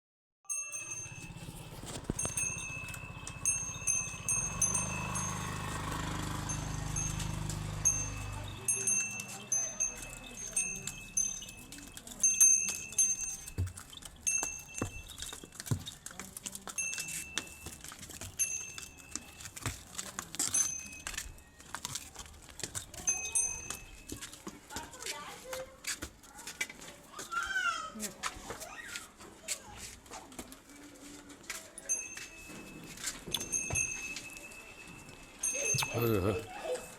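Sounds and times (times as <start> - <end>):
small metal bells ringing: 0.5 - 25.6, 31.7 - 36.9.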